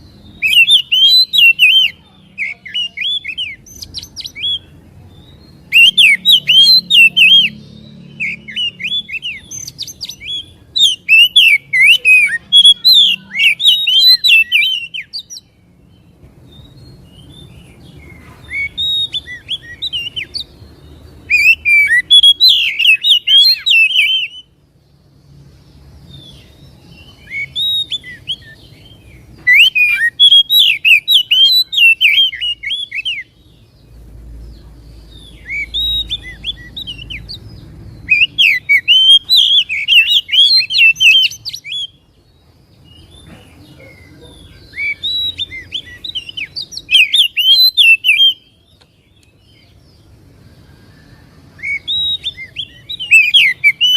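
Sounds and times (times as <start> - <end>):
bird singing whistled phrases: 0.2 - 15.5, 16.5 - 20.5, 21.2 - 24.5, 26.2 - 33.4, 35.1 - 42.0, 43.0 - 48.8, 50.8 - 53.9.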